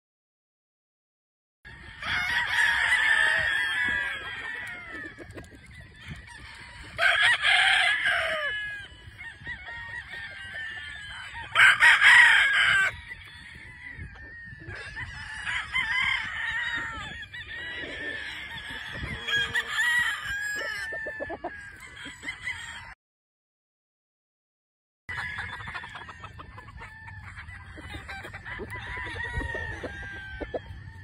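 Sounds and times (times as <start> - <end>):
loud rooster crows: 1.7 - 23.0, 25.1 - 31.0
roosters crowing and clucking: 1.7 - 23.0, 25.1 - 31.0.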